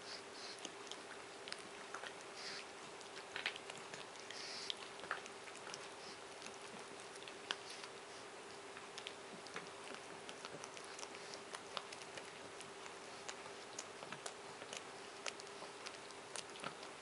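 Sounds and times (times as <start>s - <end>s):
faint steady hum: 0.0s - 17.0s
dog teeth gnawing bone: 0.1s - 17.0s.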